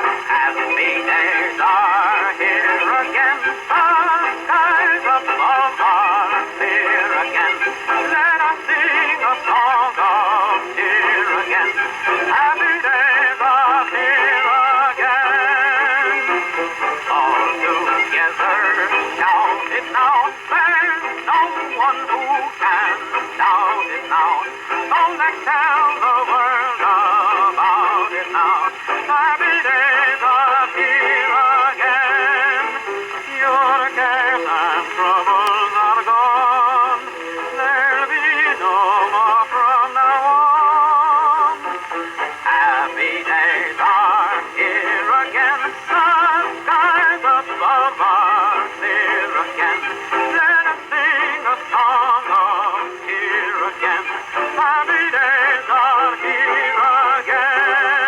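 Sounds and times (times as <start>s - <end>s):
dance band on old record: 0.0s - 58.0s
man singing with vibrato: 0.0s - 58.0s.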